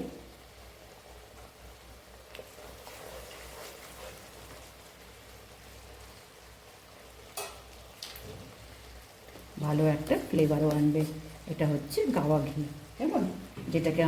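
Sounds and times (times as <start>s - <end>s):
mixture sizzling quietly in a pan: 0.0s - 14.0s.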